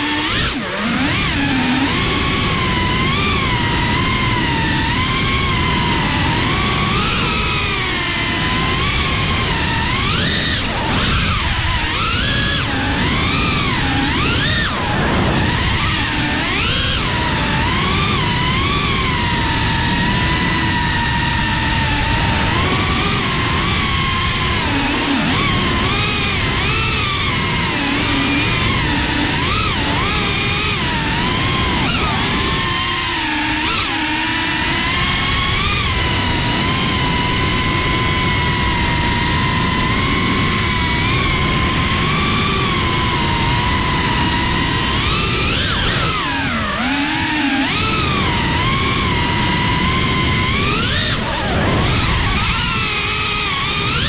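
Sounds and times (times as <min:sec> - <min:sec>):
drone propellers whining: 0:00.0 - 0:54.0
wind rushing on microphone: 0:00.0 - 0:54.0.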